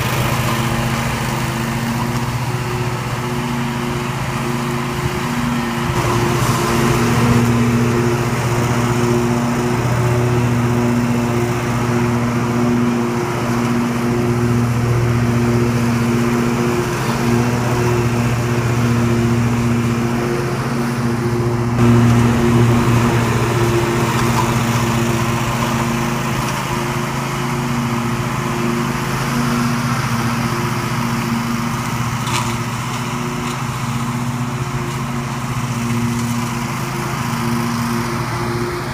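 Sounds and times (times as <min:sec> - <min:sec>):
ride-on mower engine running: 0:00.0 - 0:38.9.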